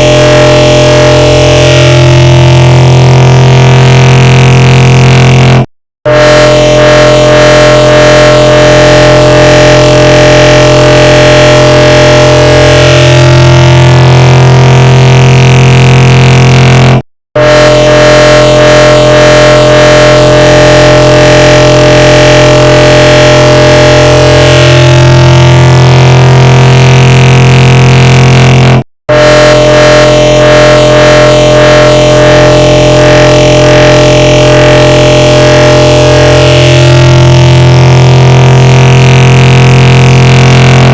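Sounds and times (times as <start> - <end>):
distorted droning voice effect: 0.0 - 40.9.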